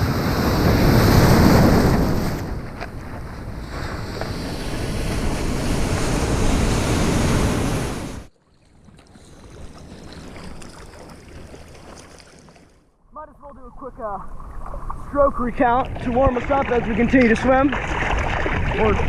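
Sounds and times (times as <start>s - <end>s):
muffled water rush: 0.0s - 12.7s, 13.5s - 19.0s
water and wind rushing: 0.0s - 19.0s.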